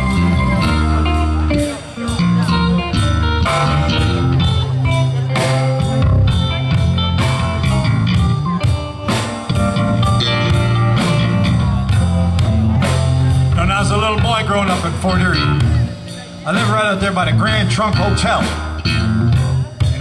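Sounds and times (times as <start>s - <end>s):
electric guitar: 0.0s - 20.0s
live band playing blues: 0.0s - 20.0s.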